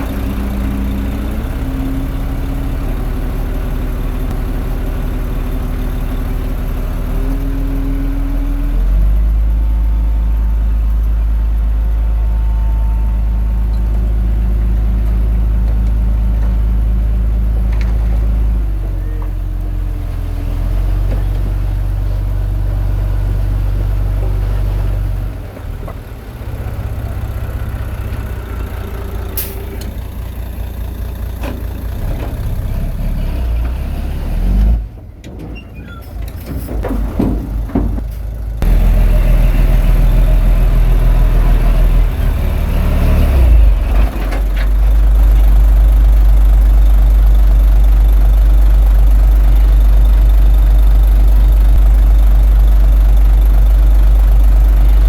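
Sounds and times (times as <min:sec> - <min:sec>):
heavy diesel machinery engine: 0:00.0 - 0:55.0.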